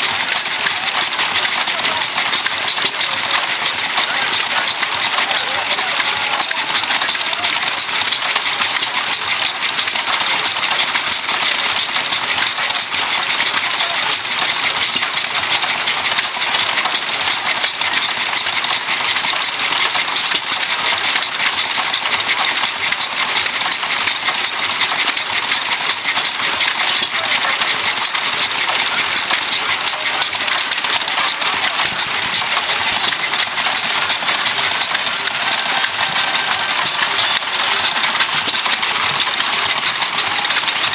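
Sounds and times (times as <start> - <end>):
rapid mechanical clicking: 0.0 - 40.9
stationary gas engine running: 0.0 - 40.9.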